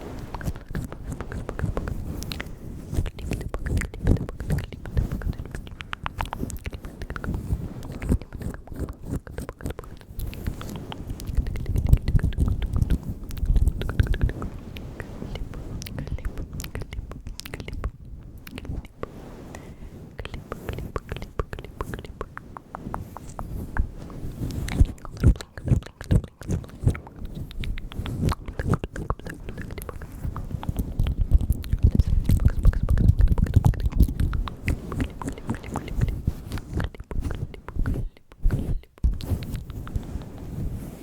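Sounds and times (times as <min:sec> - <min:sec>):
wet mouth clicks and lip smacks: 0:00.2 - 0:40.4.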